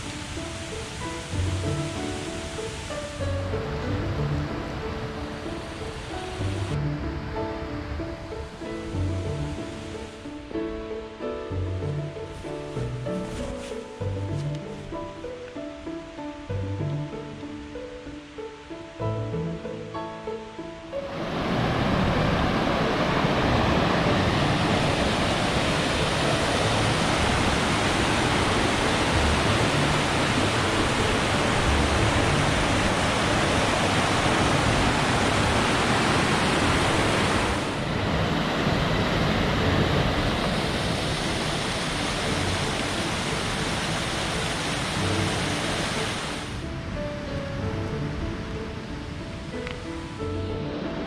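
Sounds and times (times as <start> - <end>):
mountain stream rushing: 0.0 - 51.0.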